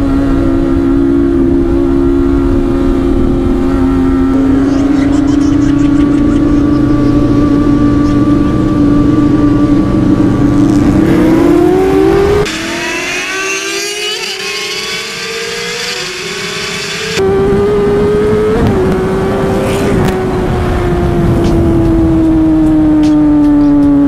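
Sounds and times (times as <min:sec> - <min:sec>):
motorcycle engine at high revs: 0:00.0 - 0:24.0
vehicle engine accelerating: 0:00.0 - 0:24.0.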